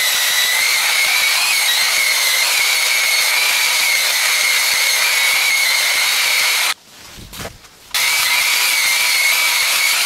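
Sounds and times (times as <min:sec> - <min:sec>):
sander grinding wood: 0:00.0 - 0:06.8, 0:08.0 - 0:10.0.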